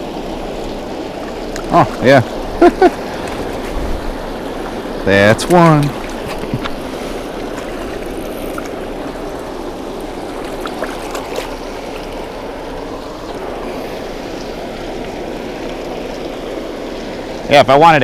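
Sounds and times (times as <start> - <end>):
water rushing over spillway: 0.0 - 18.0.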